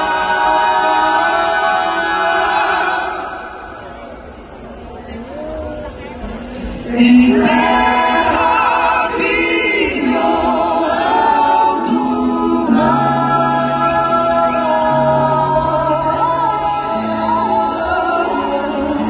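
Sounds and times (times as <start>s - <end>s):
crowd singing: 0.0s - 4.4s, 5.0s - 19.0s.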